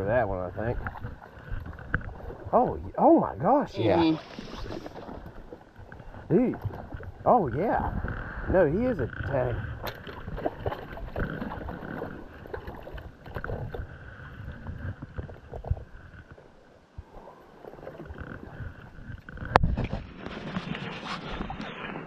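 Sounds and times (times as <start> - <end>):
river water splashing: 0.0 - 7.2, 9.7 - 22.0.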